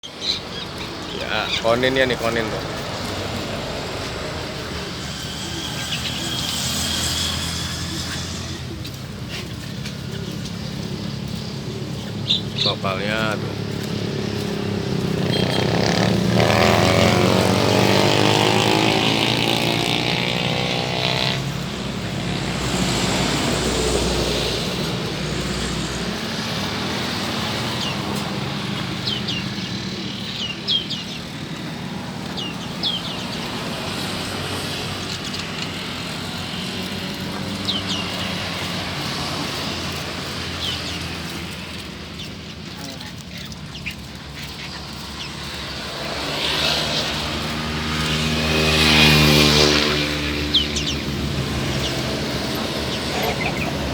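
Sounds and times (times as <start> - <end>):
steady engine hum: 0.0 - 53.9
vehicle passing: 0.0 - 53.9.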